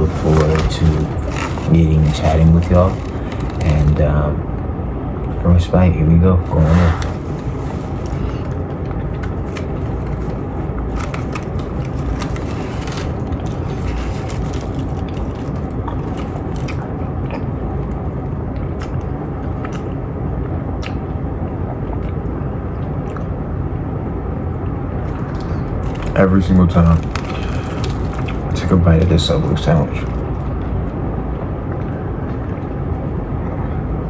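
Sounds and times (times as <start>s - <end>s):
low engine rumble: 0.0s - 34.0s.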